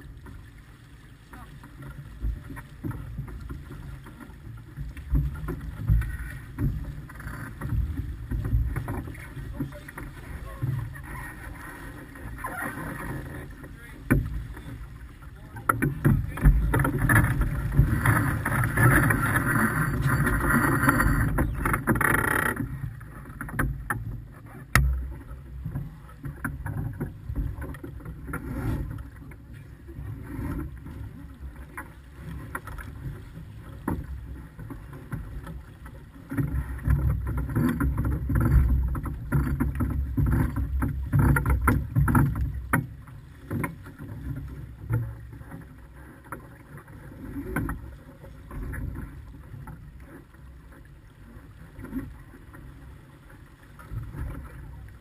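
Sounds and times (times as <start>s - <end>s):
water rushing along a hull: 0.0s - 55.0s.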